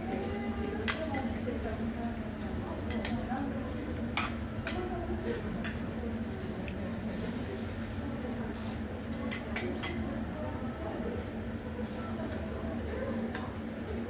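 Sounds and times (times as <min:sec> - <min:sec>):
restaurant hum: 0:00.0 - 0:14.0.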